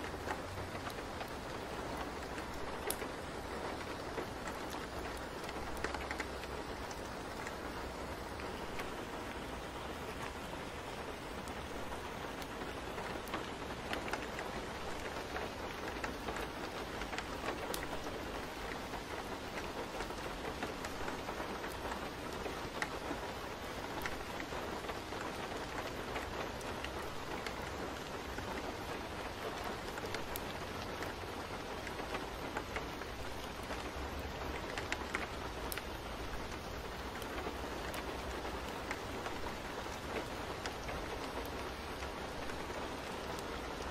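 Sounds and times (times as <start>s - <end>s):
rain drop ticks: 0.0s - 43.9s
rain hissing: 0.0s - 43.9s.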